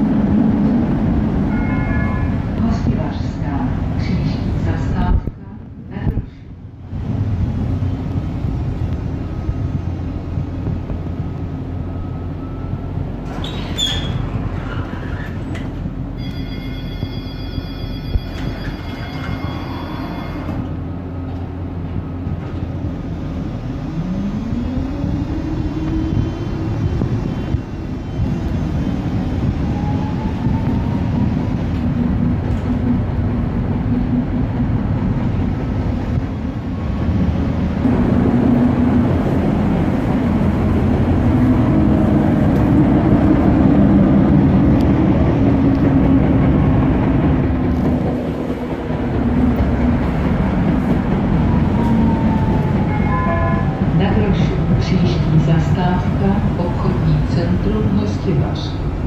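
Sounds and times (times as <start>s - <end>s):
tram running rumble: 0.0s - 59.0s
tram motor whine: 6.7s - 57.8s.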